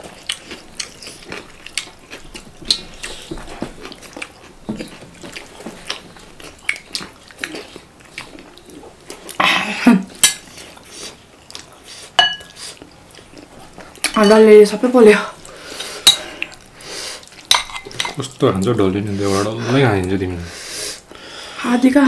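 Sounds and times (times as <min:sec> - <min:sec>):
chewing and eating sounds: 0:00.0 - 0:20.3.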